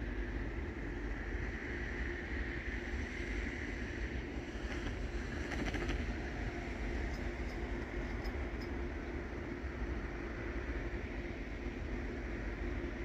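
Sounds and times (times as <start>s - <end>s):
open-air background rumble and hiss: 0.0s - 13.0s.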